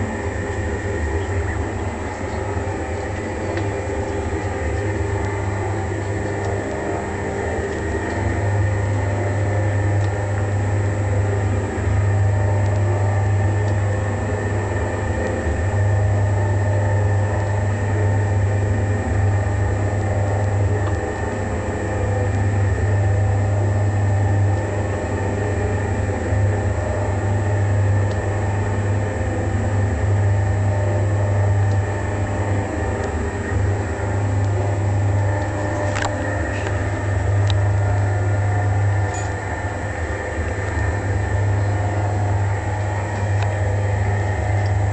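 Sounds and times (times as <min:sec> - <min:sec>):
noisy rubbing: 0:00.0 - 0:44.9
polishing machine motor hum: 0:00.0 - 0:44.9.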